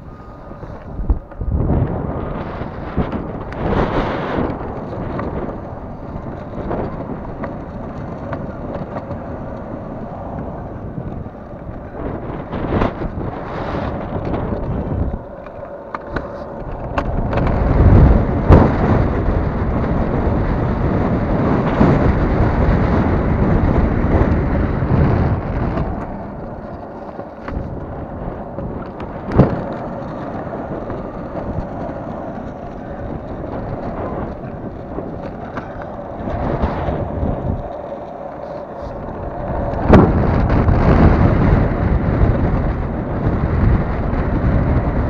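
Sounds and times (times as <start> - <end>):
longboard wheels rolling on asphalt: 0.0 - 45.0
wind buffeting microphone: 0.0 - 45.0.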